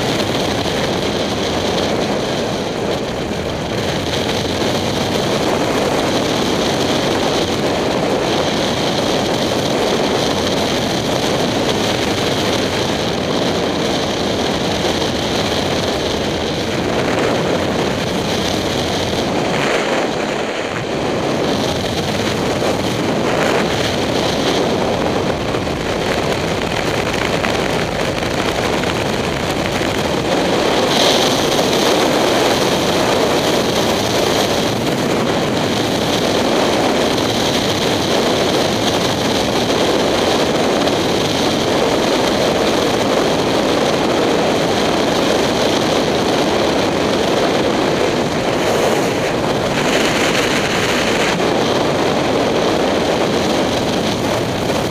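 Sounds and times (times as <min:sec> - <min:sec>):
motorcycle engine running: 0:00.0 - 0:54.9
wind rush on microphone: 0:00.0 - 0:54.9.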